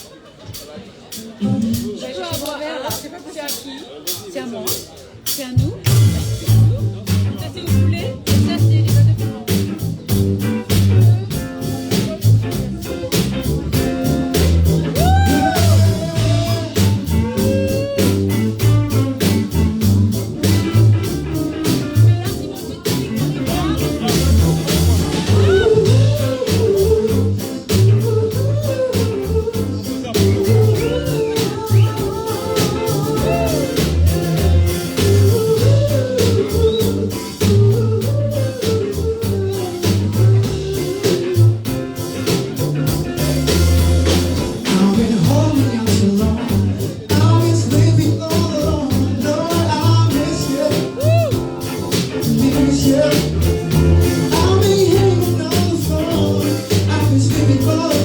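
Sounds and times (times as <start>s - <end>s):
live band playing soul-rock: 0.0s - 58.0s
person singing: 10.7s - 58.0s.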